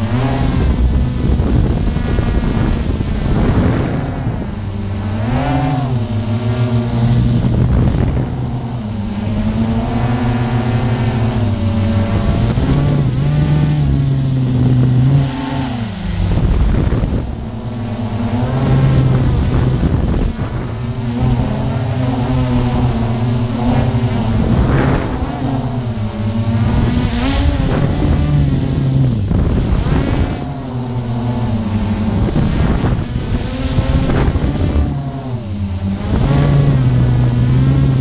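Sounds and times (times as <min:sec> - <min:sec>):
drone motors buzzing: 0:00.0 - 0:38.0.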